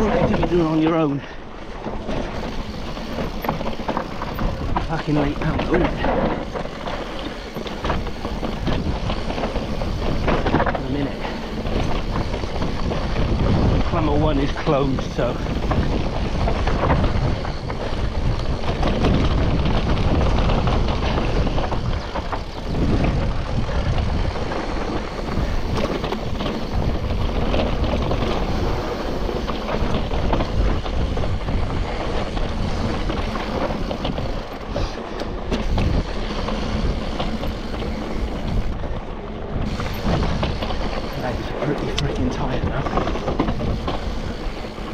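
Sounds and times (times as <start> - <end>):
bike rattling: 0.0 - 44.9
bike tyres rolling over rock: 0.0 - 44.9
wind buffeting microphone: 0.0 - 44.9.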